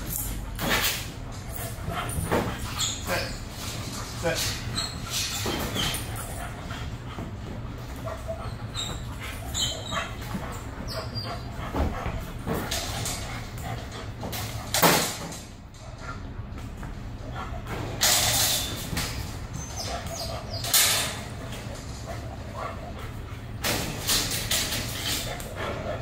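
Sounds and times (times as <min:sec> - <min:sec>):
dogs barking: 0:00.6 - 0:15.2, 0:17.1 - 0:26.0.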